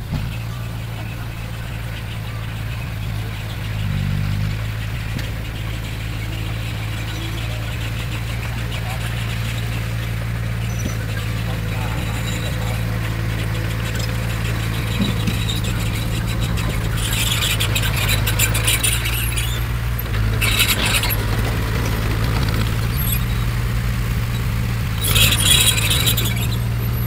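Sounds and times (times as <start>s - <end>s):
bulldozer diesel engine running: 0.0s - 27.0s
steel tracks squealing and rattling: 0.0s - 27.0s.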